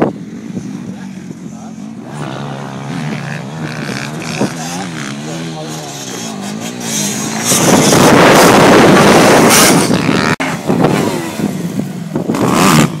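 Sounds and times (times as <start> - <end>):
dirt bike engine revving hard: 1.9 - 13.0.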